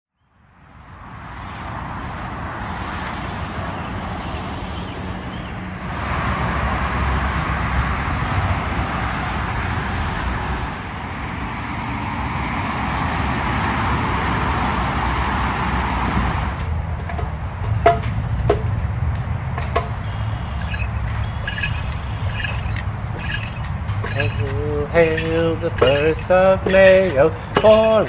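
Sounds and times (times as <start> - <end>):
road traffic noise: 0.4 - 28.0.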